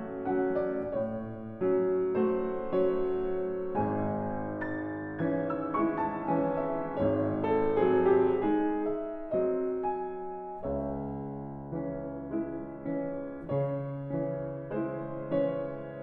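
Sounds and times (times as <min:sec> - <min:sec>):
solo piano music: 0:00.0 - 0:16.0.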